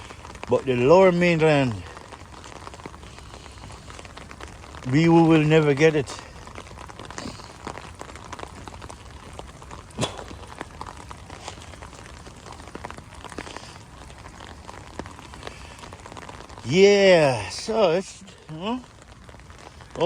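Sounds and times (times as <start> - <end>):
raindrops ticking close by: 0.0 - 20.0
steady rain falling: 0.0 - 20.0.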